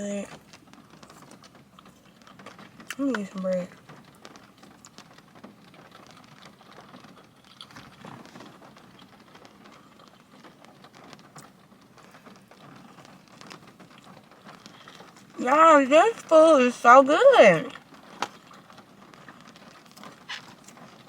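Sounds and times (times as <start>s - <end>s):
light rain pattering on a car: 0.0s - 21.0s.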